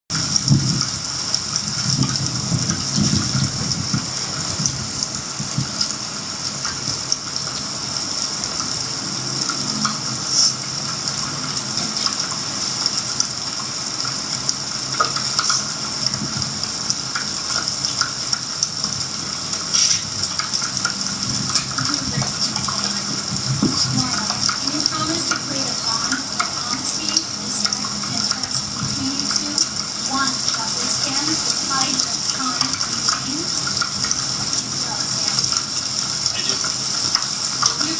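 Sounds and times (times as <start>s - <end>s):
heavy rain pouring: 0.1s - 37.9s
sharp raindrop hits: 0.1s - 37.9s.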